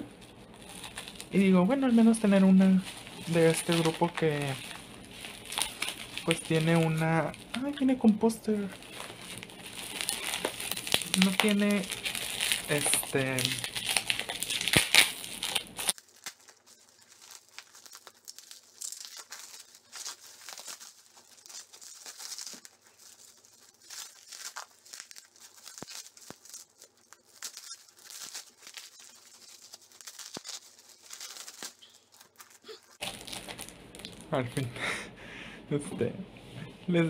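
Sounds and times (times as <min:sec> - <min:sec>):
plastic packaging crinkling: 0:00.0 - 0:34.7.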